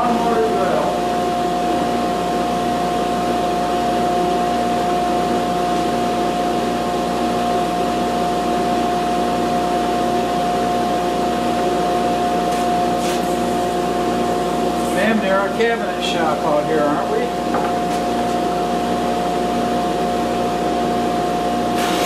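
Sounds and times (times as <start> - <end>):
dust collector running: 0.0 - 22.0.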